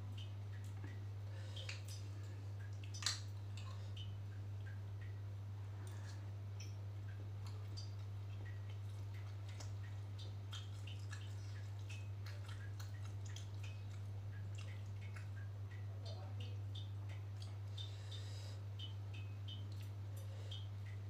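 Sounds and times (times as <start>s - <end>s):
steady low hum: 0.0s - 21.0s
wet chewing and lip-smacking: 0.1s - 21.0s.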